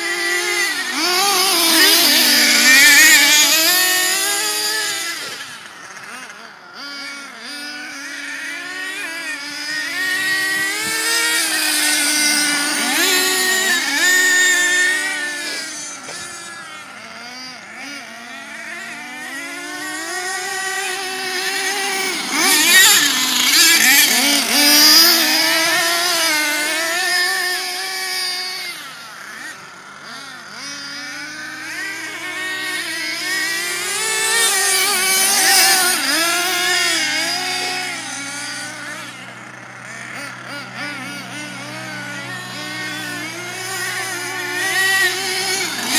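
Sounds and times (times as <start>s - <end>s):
rc car engines revving: 0.0s - 45.9s.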